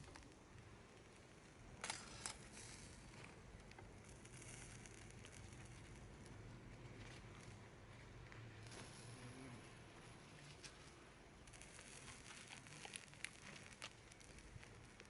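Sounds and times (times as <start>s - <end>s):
campfire crackling: 0.0s - 15.0s
soft hiss: 0.0s - 15.0s.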